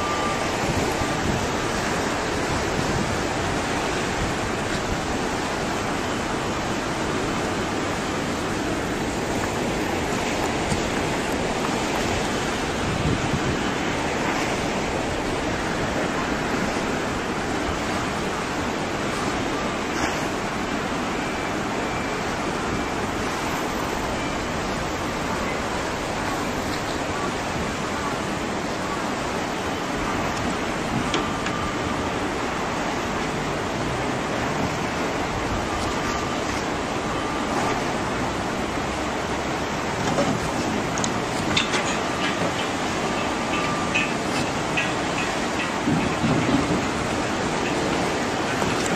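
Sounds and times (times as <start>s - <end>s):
floodwater rushing and churning: 0.0s - 48.9s.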